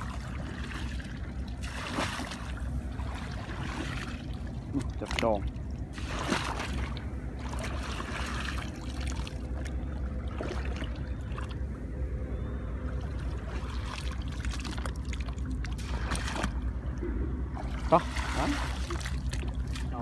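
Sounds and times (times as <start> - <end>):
steady low rumble: 0.0 - 20.0
water sloshing: 0.0 - 20.0.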